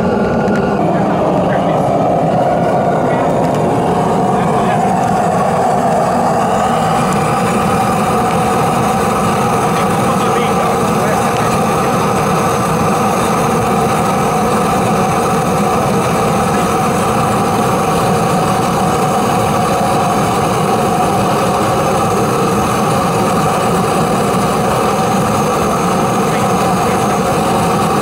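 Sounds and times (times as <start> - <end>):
electric air blower running: 0.0 - 28.0.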